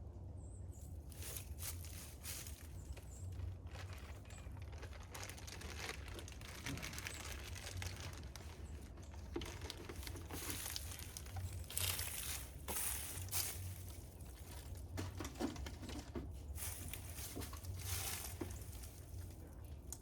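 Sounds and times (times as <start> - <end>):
crinkling and rustling: 1.0 - 20.0.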